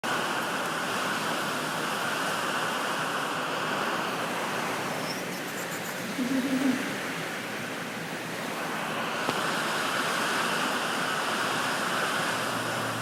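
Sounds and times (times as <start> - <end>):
heavy rain rushing: 0.0 - 13.0.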